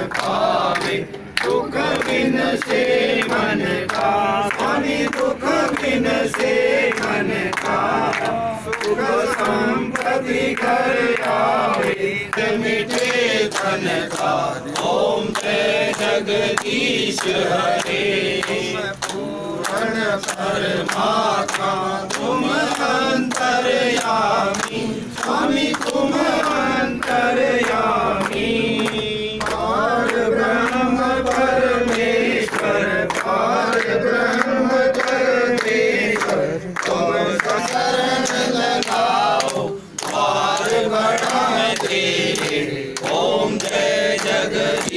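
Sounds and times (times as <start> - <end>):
group singing a hymn: 0.0 - 44.9
rhythmic hand clapping: 0.0 - 44.9.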